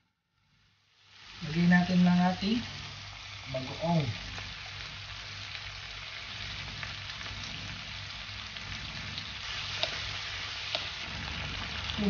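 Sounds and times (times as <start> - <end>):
food sizzling in oil: 0.5 - 12.0.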